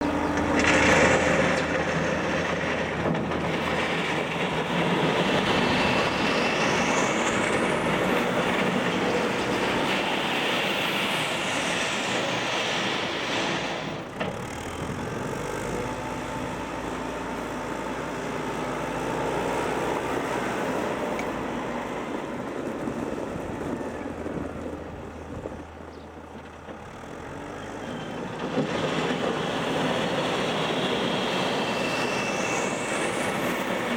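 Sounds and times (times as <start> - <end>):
diesel engine running under load: 0.0 - 33.9.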